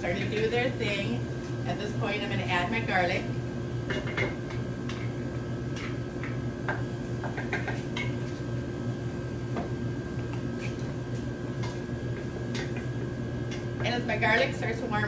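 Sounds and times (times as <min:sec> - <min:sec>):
kitchen machinery hum: 0:00.0 - 0:15.0.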